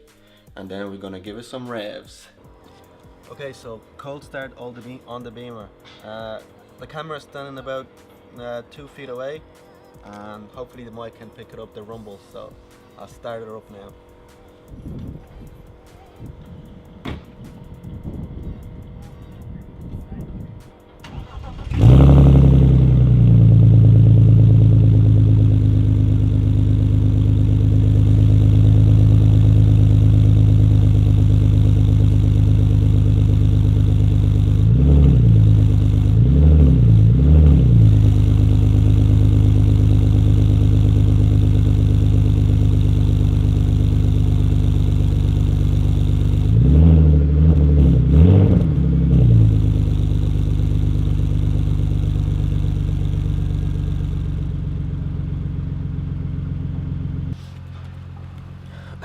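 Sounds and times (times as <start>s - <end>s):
car engine idling: 0.0s - 59.0s
engine revving: 10.0s - 57.8s.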